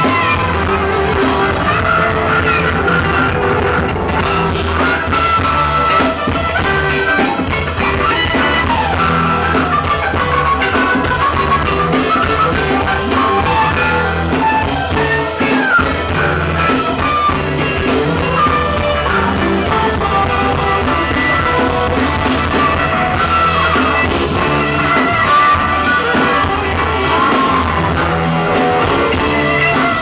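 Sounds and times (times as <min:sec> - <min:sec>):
baritone saxophone: 0:00.0 - 0:30.0
live funk band playing: 0:00.0 - 0:30.0
trumpet: 0:00.0 - 0:30.0.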